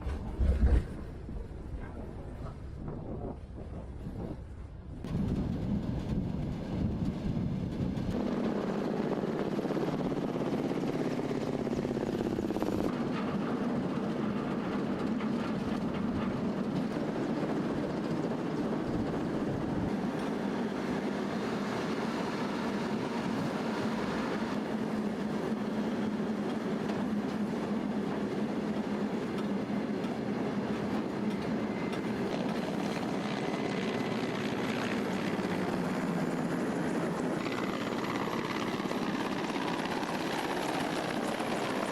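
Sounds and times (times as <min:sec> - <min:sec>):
train rumbling on track: 0:00.0 - 0:08.3, 0:10.8 - 0:41.9.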